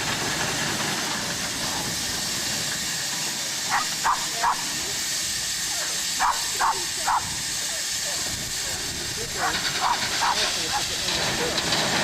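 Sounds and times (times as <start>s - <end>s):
steady hiss of steam: 0.0s - 12.0s.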